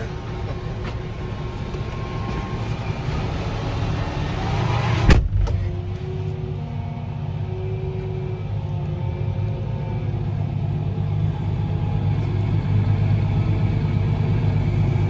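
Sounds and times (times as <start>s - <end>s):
tractor diesel engine humming: 0.0s - 15.0s.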